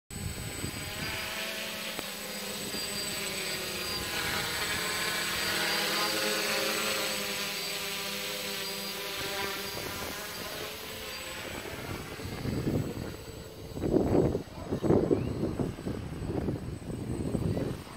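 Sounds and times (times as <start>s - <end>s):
drone propellers whining: 0.1s - 17.9s.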